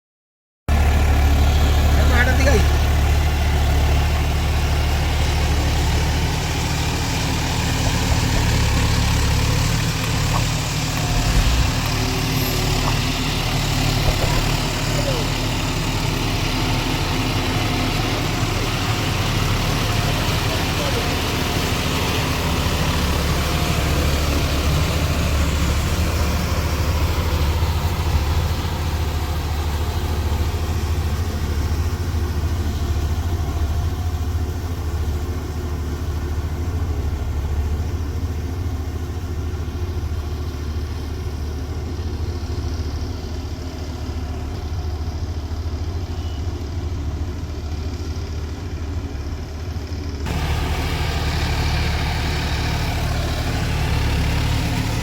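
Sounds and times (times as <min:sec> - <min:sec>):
tractor diesel engine running: 0:00.7 - 0:55.0.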